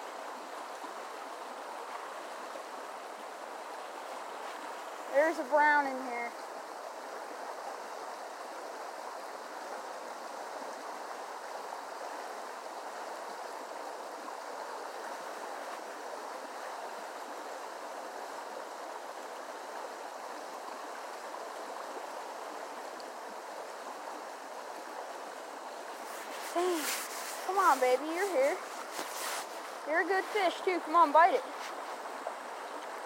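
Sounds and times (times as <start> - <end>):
creek water flowing: 0.0 - 33.0.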